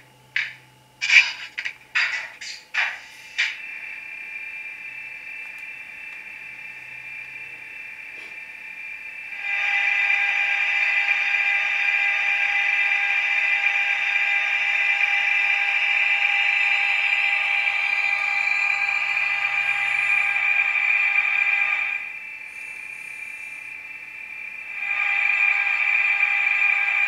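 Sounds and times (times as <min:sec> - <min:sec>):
electric locomotive hum from speaker: 0:00.0 - 0:27.0.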